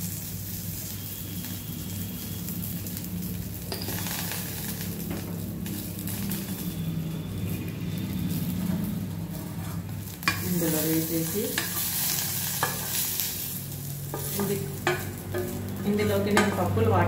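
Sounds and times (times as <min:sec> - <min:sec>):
crackles in oil: 0:00.0 - 0:16.9
spices sizzling in hot oil: 0:00.0 - 0:17.0.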